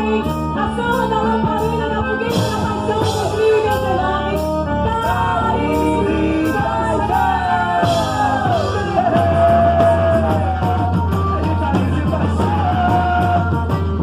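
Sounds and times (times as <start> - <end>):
band music: 0.0 - 14.0.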